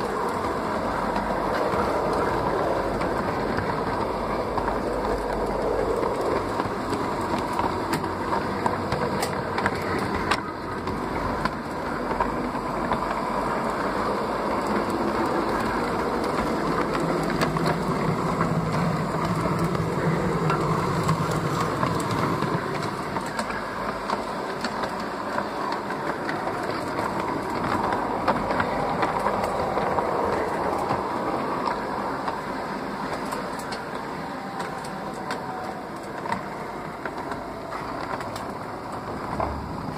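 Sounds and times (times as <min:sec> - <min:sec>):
wheels clicking over track: 0:00.0 - 0:39.9.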